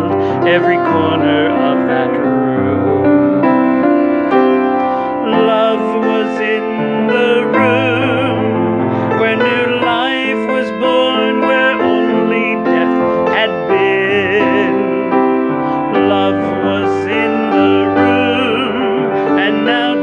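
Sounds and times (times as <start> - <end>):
man singing slow ballad: 0.0 - 3.9, 4.8 - 20.0
piano chords: 0.0 - 20.0.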